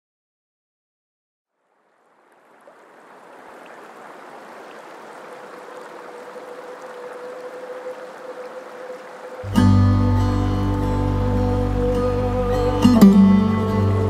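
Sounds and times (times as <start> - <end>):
river water rushing: 1.6 - 14.0.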